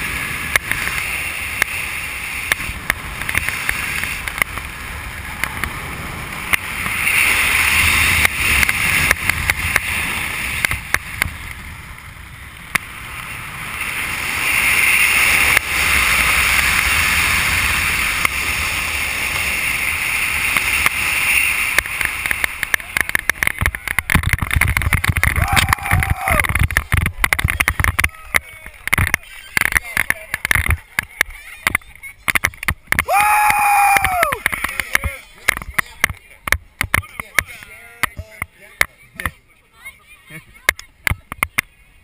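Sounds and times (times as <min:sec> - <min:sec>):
wind rushing over microphone: 0:00.0 - 0:38.2.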